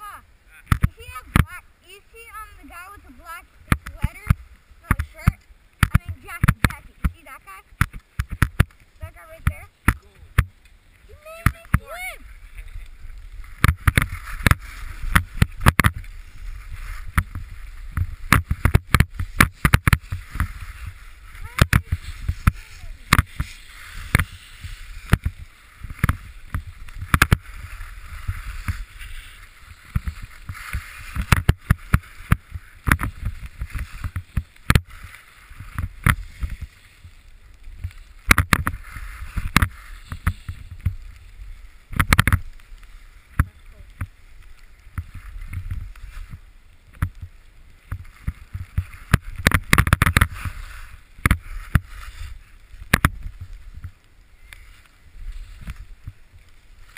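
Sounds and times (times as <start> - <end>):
skis scraping over snow: 0.0 - 56.9
wind rumbling on microphone: 0.0 - 56.9.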